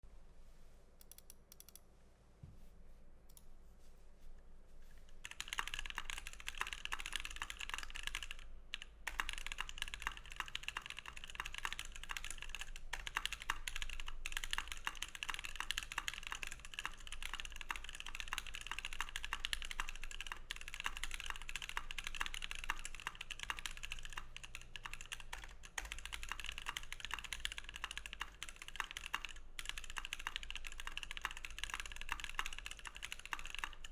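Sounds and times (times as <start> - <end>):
mechanical keyboard typing: 1.0 - 1.8, 5.2 - 33.9.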